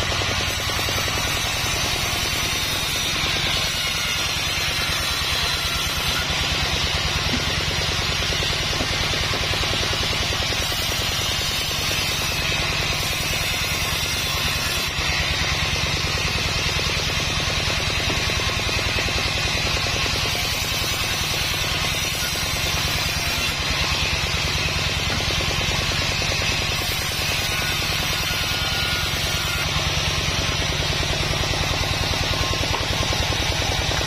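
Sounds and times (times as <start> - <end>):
band saw motor hum: 0.0 - 34.0
saw blade rasping through wood: 0.0 - 34.0.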